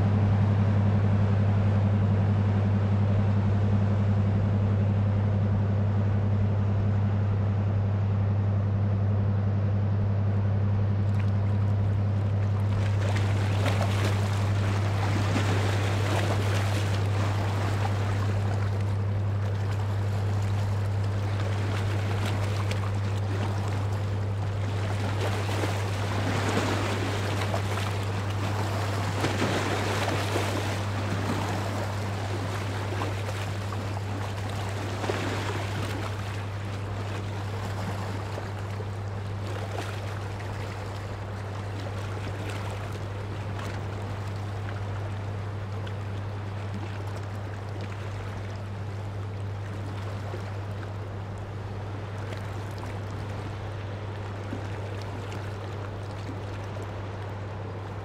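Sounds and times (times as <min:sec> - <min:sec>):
ship engine drone: 0:00.0 - 0:58.0
water splashing against breakwater: 0:11.1 - 0:58.0.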